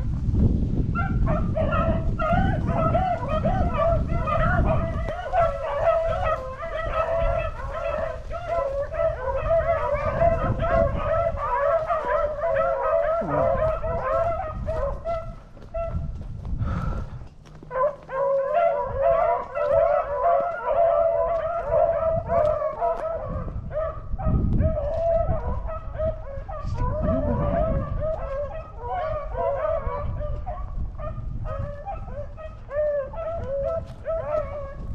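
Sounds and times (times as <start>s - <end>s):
hounds baying: 0.9s - 34.9s.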